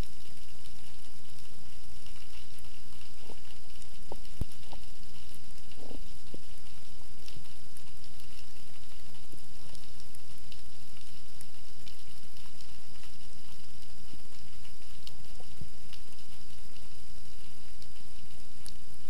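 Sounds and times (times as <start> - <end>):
faint clicks and crackles: 0.0 - 19.0
muffled underwater hum and hiss: 0.0 - 19.0.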